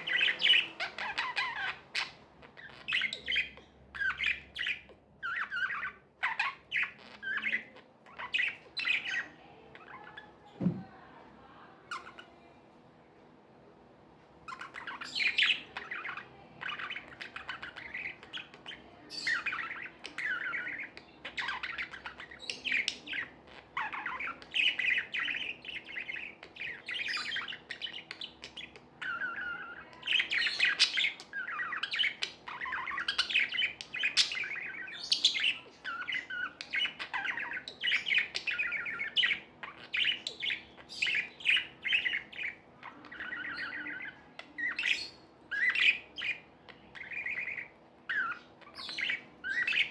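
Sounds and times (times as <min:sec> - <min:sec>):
budgerigars chirping and warbling: 0:00.0 - 0:12.6, 0:14.4 - 0:49.9.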